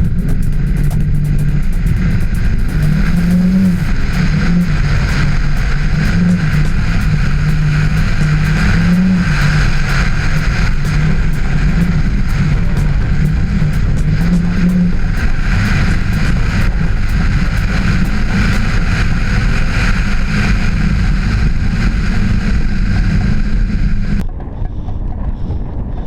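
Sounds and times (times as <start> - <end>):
sharp ticks: 0.0 - 21.0
windy hiss: 0.0 - 24.1
rally car engine running hard: 0.0 - 26.0.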